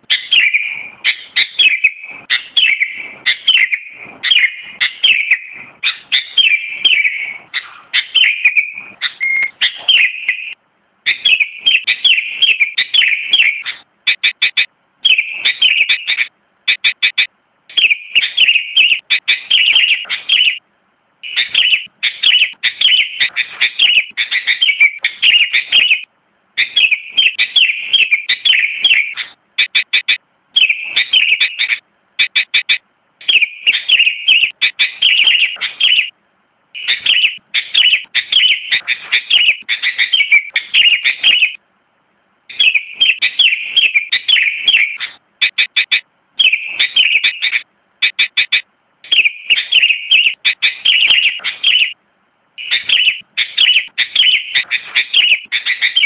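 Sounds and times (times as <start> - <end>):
bulbul singing: 0.0 - 20.6, 21.2 - 36.2, 36.8 - 41.6, 42.5 - 52.0, 52.6 - 56.0.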